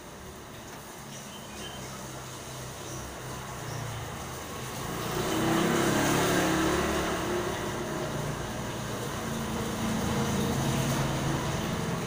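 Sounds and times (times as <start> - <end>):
rain hissing: 0.0 - 12.0
motorbike engine passing: 2.0 - 12.0.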